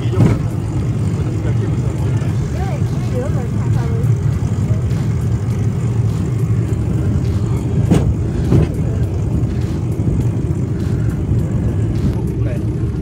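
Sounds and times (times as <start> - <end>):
wheels rolling on track: 0.0 - 13.0.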